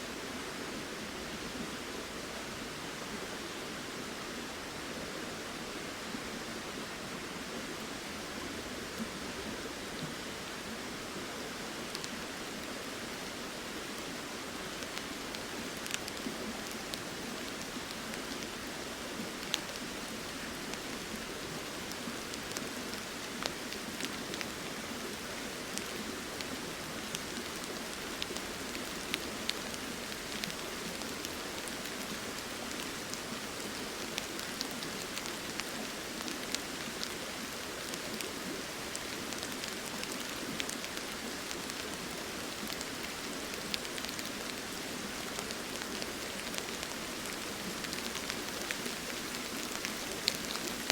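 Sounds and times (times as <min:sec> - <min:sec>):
steady rain falling: 0:00.0 - 0:50.9
river flowing: 0:00.1 - 0:50.9.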